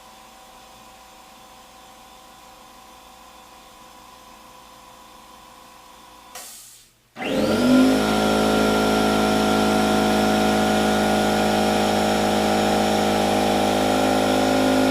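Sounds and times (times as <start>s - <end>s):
air compressor running: 0.0s - 14.9s.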